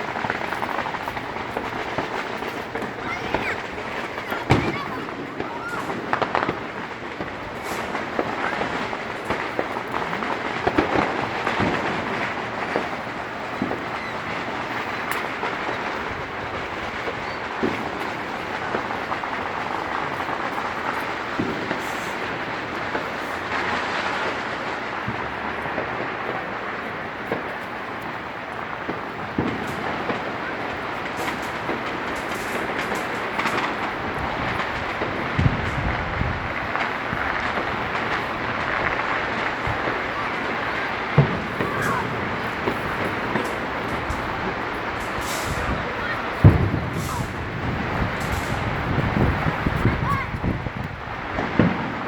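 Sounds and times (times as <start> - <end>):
sharp firecracker pops: 0.0 - 26.5, 27.2 - 52.0
fireworks crackling: 0.0 - 52.0.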